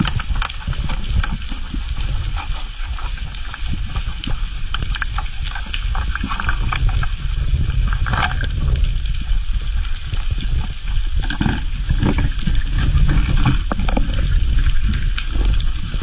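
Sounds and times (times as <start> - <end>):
crackling clicks underwater: 0.0 - 16.0
low underwater rumble: 0.0 - 16.0.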